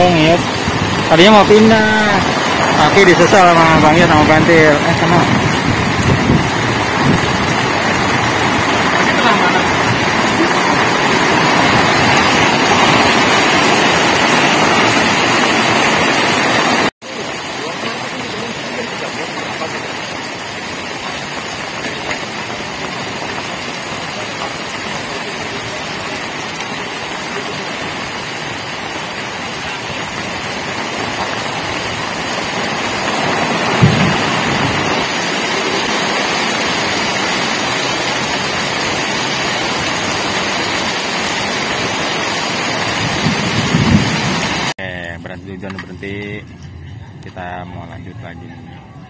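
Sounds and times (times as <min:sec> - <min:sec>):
heavy rain on lake: 0:00.0 - 0:44.8.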